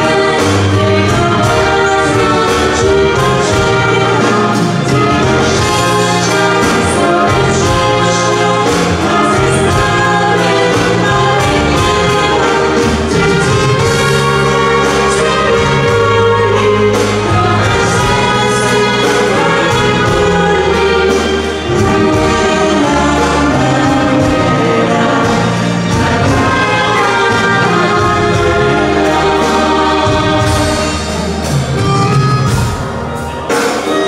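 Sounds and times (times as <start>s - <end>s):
women singing in harmony: 0.0s - 31.2s
accordion: 0.0s - 34.0s
keyboard: 0.0s - 34.0s.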